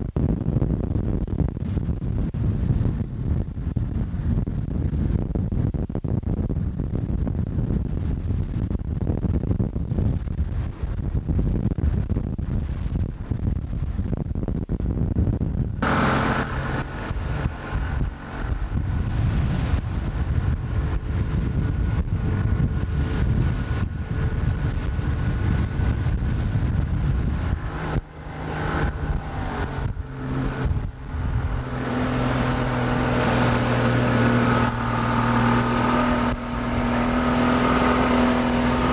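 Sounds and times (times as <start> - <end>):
boat engine humming: 0.0 - 38.9
low rumble: 0.0 - 38.9
wind buffeting microphone: 0.0 - 38.9.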